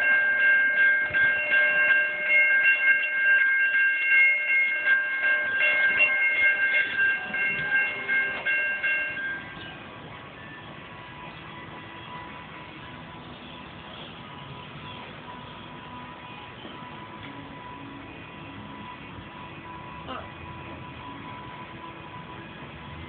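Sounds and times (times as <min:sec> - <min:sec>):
freight train rumble and clatter: 0:00.0 - 0:23.0.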